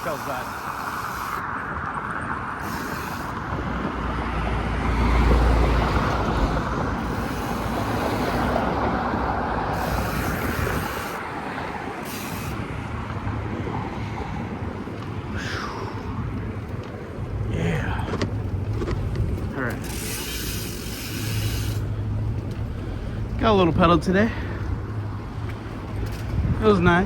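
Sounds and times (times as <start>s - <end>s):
deep traffic rumble: 0.0s - 27.0s
road traffic hiss: 0.0s - 27.0s.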